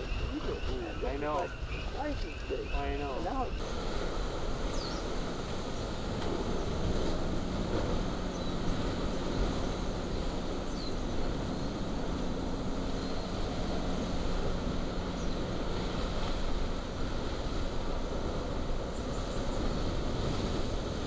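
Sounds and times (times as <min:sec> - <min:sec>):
lava fountain deep rumble: 0:00.0 - 0:21.0.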